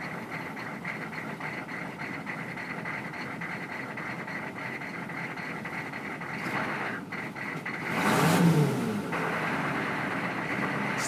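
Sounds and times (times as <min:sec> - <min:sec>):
diesel engine idling and revving: 0:00.0 - 0:11.0.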